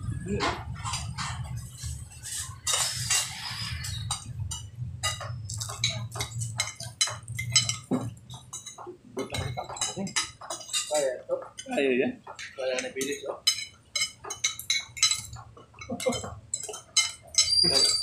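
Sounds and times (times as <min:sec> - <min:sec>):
cutlery clinking on plates: 0:00.4 - 0:18.0.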